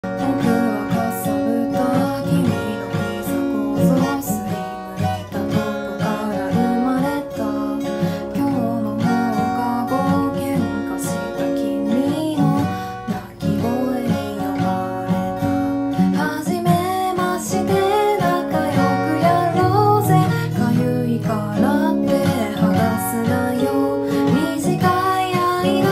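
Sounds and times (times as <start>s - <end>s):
acoustic guitar: 0.0s - 25.9s
woman singing: 0.0s - 25.9s.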